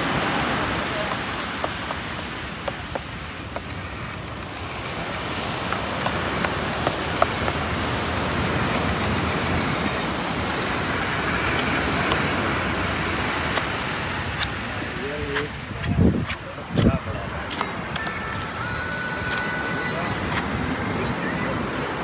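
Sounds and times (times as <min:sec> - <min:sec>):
surf: 0:00.0 - 0:22.0
wind: 0:00.0 - 0:22.0.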